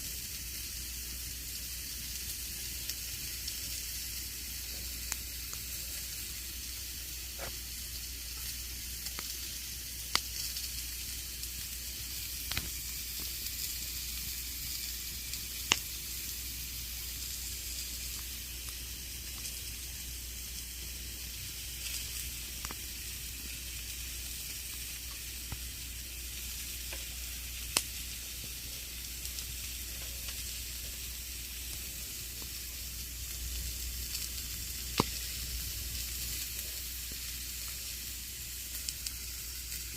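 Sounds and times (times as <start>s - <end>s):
campfire flames hissing: 0.0s - 39.9s
burning wood popping and crackling: 4.5s - 39.9s.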